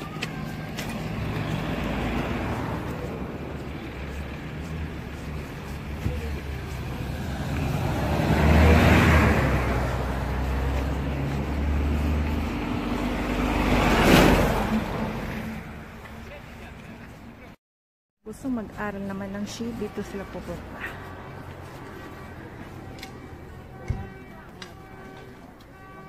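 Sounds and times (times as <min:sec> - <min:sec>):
vehicles driving past: 0:00.0 - 0:17.6, 0:18.3 - 0:26.0.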